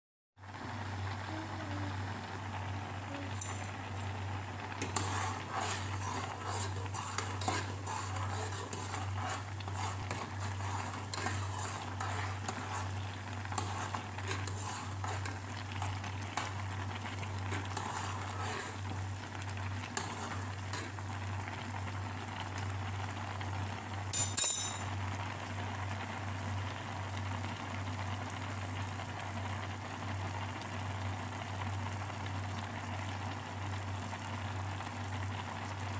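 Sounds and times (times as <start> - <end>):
water boiling and bubbling: 0.4 - 35.9.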